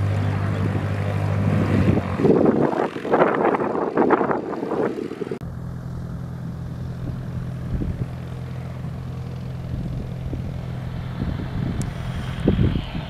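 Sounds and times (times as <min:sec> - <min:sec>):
distant propeller aircraft droning: 0:00.0 - 0:13.0.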